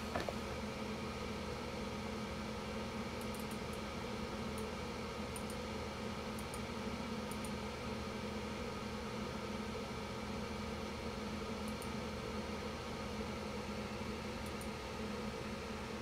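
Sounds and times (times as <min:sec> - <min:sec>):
computer fan humming: 0:00.0 - 0:16.0.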